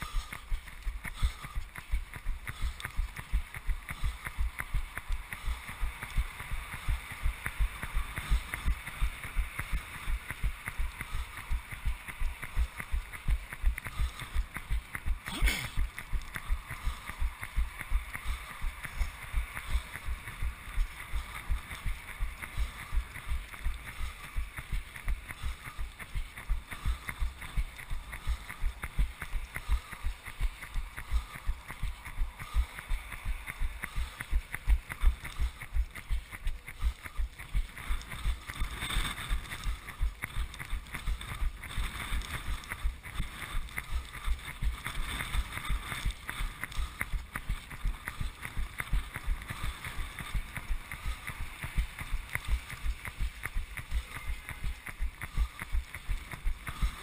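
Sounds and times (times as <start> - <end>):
footfalls on wet asphalt: 0.0 - 57.0.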